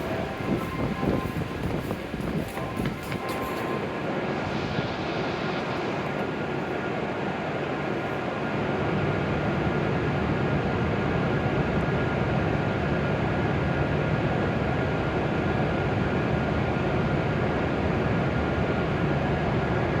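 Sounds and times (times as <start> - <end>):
faint steady whine: 0.0 - 20.0
train blowers and air conditioning drone: 0.0 - 20.0.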